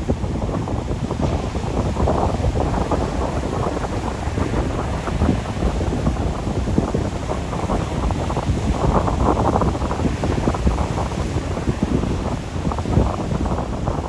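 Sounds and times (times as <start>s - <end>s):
sea waves washing on shore: 0.0s - 14.0s
wind buffeting microphone: 0.0s - 14.0s.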